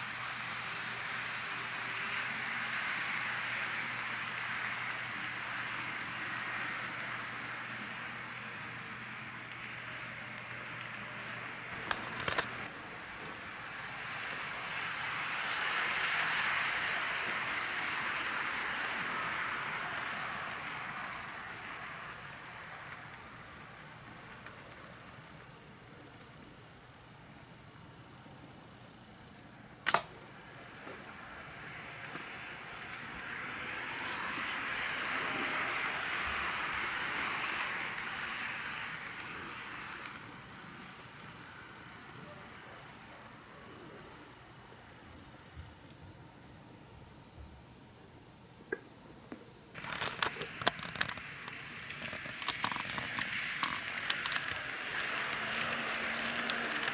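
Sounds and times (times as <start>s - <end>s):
model train rolling on track: 0.0s - 45.7s, 49.7s - 56.9s.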